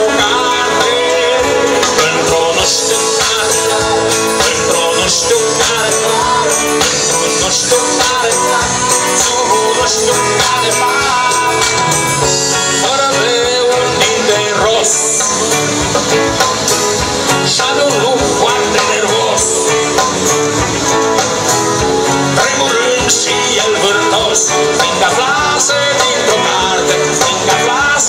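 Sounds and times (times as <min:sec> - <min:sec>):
electric guitar: 0:00.0 - 0:28.0
live rock band: 0:00.0 - 0:28.0.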